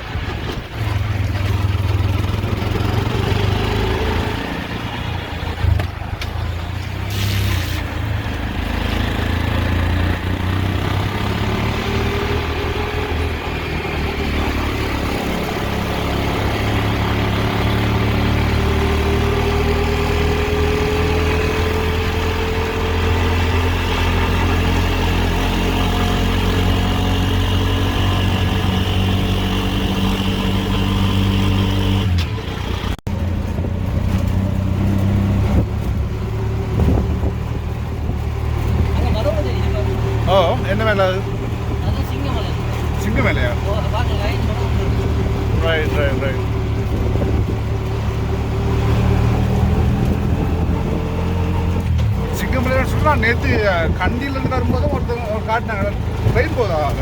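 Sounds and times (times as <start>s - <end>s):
road noise: 0.0s - 57.0s
vehicle engine accelerating: 0.0s - 57.0s.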